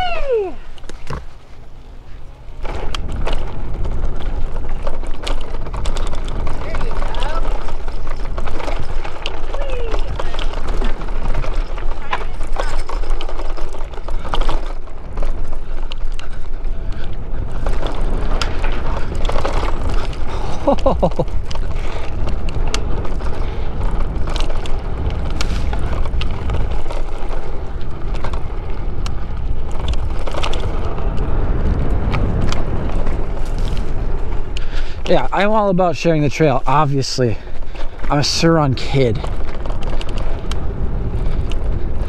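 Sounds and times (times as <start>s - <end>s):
bike rattles and knocks: 0.0s - 42.0s
tyres rolling on dirt trail: 0.0s - 42.0s
wind buffeting microphone: 0.0s - 42.0s.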